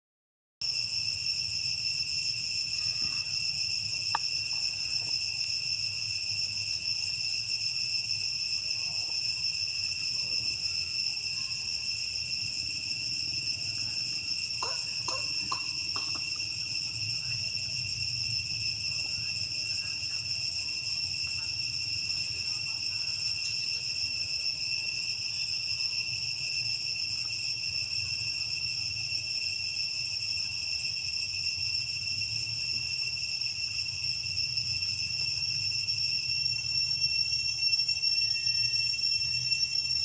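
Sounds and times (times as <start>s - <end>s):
insects droning: 0.6s - 40.0s.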